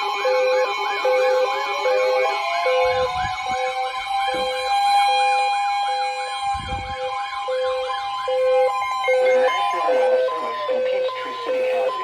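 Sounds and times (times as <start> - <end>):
steady high alarm tone: 0.0 - 12.0.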